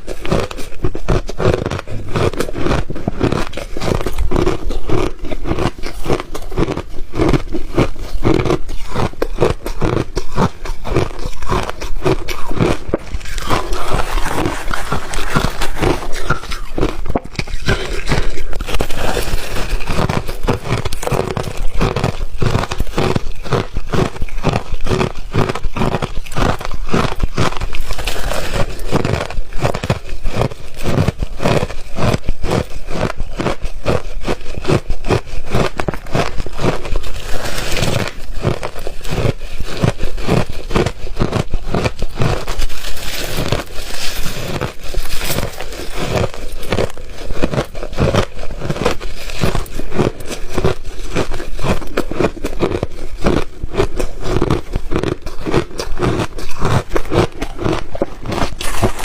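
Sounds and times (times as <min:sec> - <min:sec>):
person crunching ice: 0:00.0 - 0:59.0.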